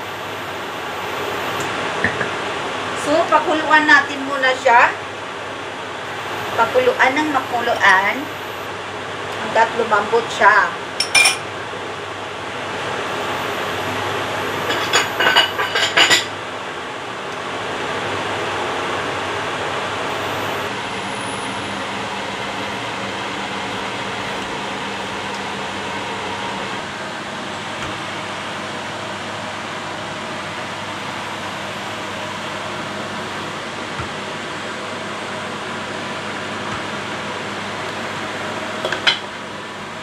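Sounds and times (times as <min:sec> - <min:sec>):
water at a rolling boil: 0:00.0 - 0:40.0.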